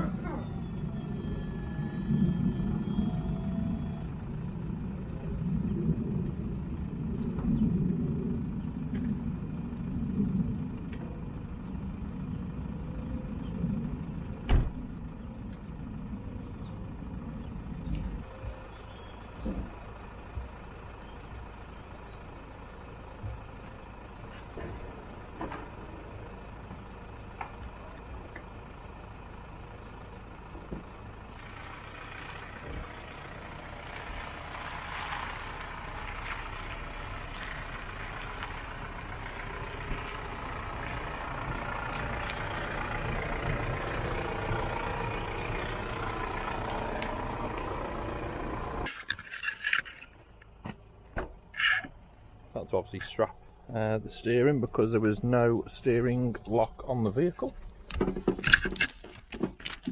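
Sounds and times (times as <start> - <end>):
truck engine rumble: 0.0 - 59.9.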